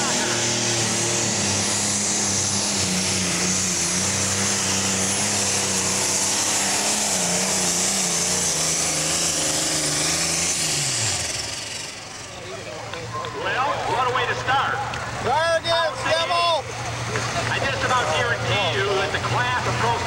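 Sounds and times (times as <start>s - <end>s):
diesel tractor engine under load: 0.0s - 20.0s
high turbo whine: 0.0s - 20.0s.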